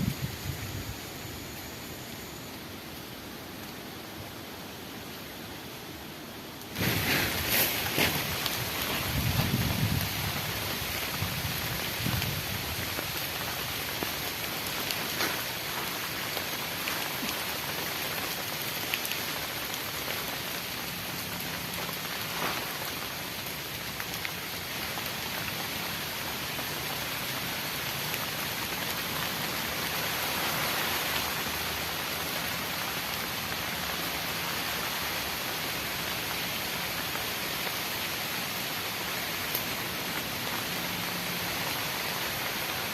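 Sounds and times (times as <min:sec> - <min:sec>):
heavy rain falling: 0:05.5 - 0:42.9.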